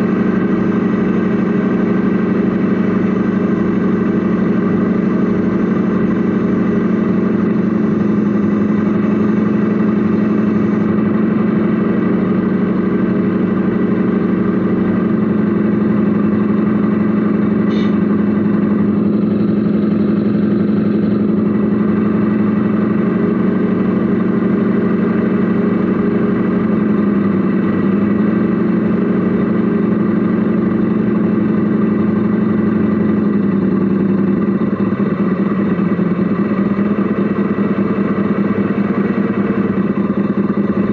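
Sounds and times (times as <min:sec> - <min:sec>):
model truck engine hum: 0:00.0 - 0:40.9.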